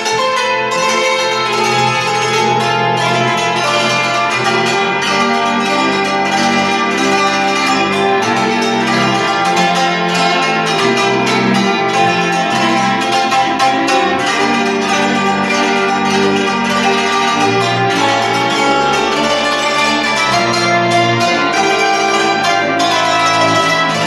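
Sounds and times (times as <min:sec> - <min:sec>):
cimbalom folk tune: 0:00.0 - 0:24.0.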